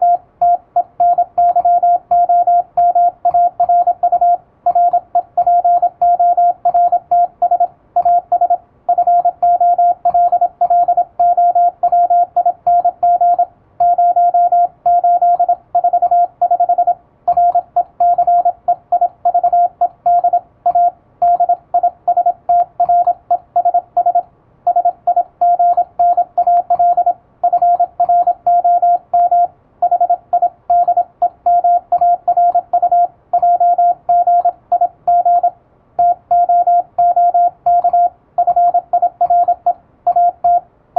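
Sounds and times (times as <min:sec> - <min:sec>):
morse code tone: 0:00.0 - 0:40.6.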